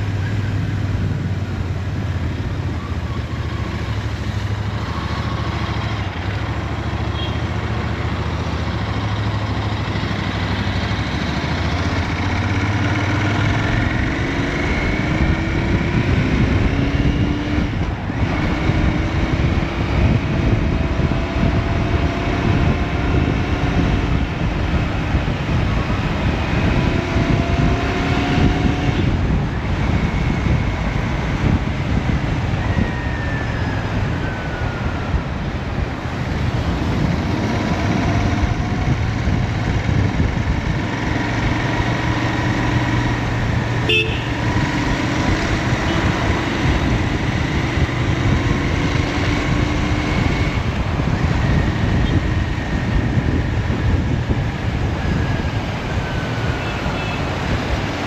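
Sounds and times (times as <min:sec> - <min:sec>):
motorcycle engine revving: 0:03.0 - 0:32.6, 0:36.1 - 0:58.0.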